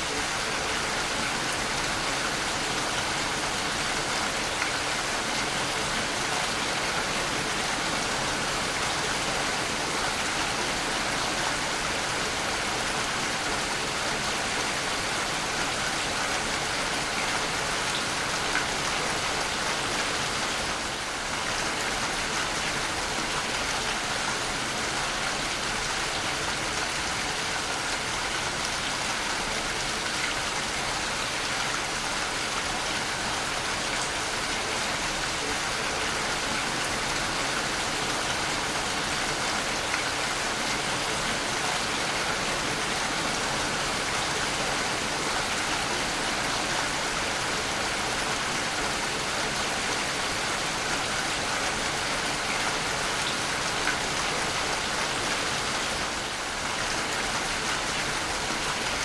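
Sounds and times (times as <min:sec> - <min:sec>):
waterfall splashing and rushing: 0:00.0 - 0:59.0.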